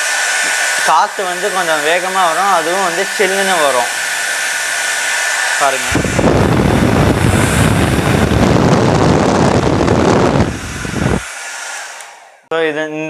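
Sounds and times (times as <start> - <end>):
hair dryer blowing on microphone: 0.0 - 12.5.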